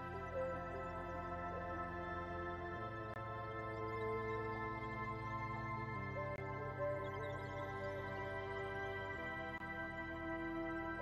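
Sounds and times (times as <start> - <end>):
background music with sustained notes: 0.0 - 11.0.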